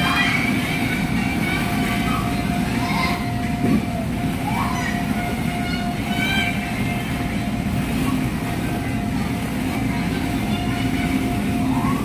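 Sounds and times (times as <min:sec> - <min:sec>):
children calling: 0:00.0 - 0:12.0
low indoor rumble: 0:00.0 - 0:12.0.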